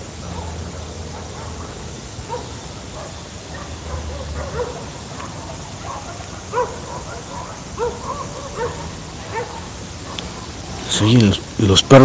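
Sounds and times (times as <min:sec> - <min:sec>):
faint dogs barking: 0:00.0 - 0:12.0
steady hiss: 0:00.0 - 0:12.0.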